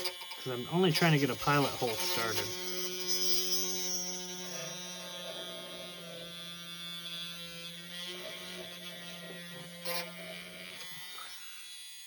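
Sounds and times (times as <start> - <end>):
electric micro drill running: 0.0 - 12.0.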